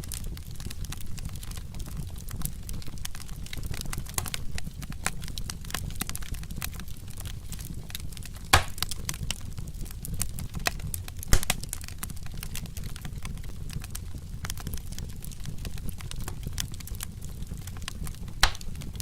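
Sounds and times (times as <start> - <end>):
log fire crackling: 0.0 - 19.0
low rumble of fire: 0.0 - 19.0
loud fire pops: 0.1 - 19.0.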